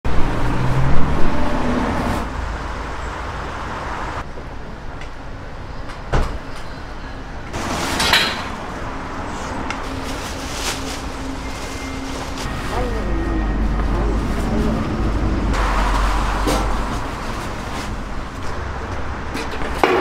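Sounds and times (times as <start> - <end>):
vehicle rumbling past: 0.1 - 4.3, 7.5 - 19.5.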